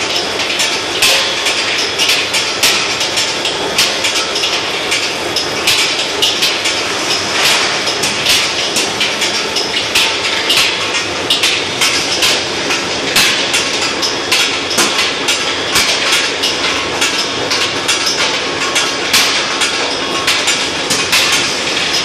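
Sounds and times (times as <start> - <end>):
steady mechanical noise: 0.0 - 22.0.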